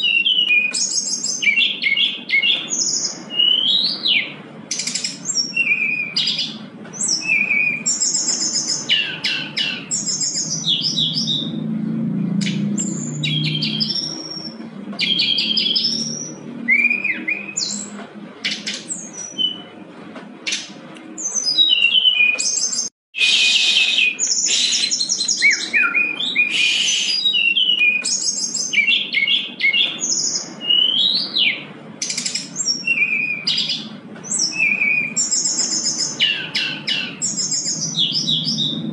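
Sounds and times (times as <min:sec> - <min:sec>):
bird singing whistling song: 0:00.0 - 0:11.6, 0:12.4 - 0:19.7, 0:21.2 - 0:38.9.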